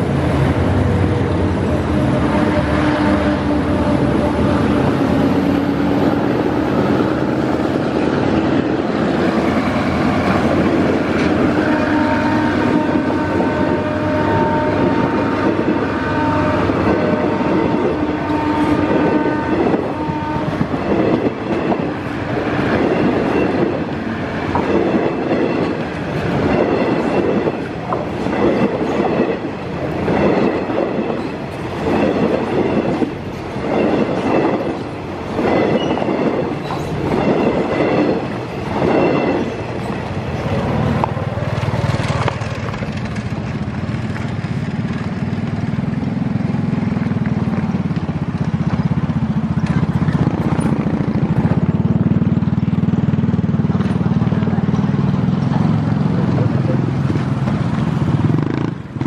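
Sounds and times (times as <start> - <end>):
clickety-clack over rail joints: 0.0 - 59.0
train wheels ringing on rails: 0.0 - 59.0.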